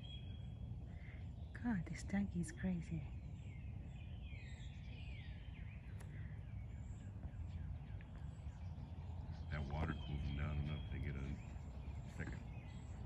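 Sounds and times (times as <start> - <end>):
faint bird calls: 0.0 - 13.0
low background rumble: 0.0 - 13.0.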